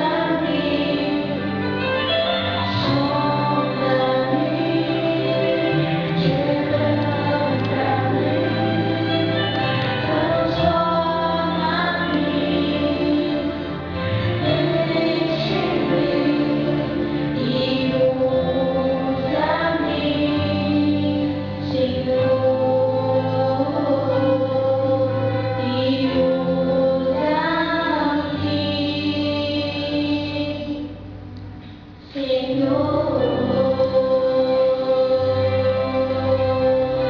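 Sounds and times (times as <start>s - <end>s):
women singing gospel duet: 0.0s - 31.0s, 32.1s - 37.0s
instrumental accompaniment: 0.0s - 37.0s.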